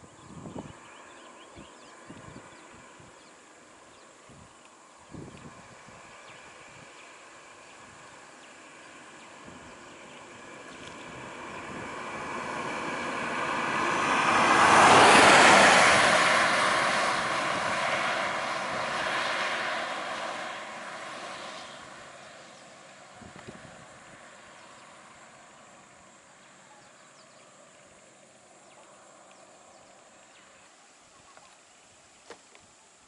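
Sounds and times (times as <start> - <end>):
bus driving past: 0.0 - 31.0.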